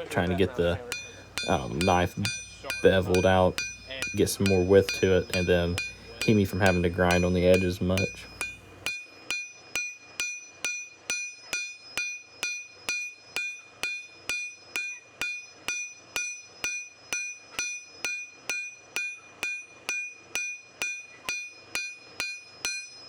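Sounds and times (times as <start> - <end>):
hammer striking steel on anvil: 0.0 - 23.0.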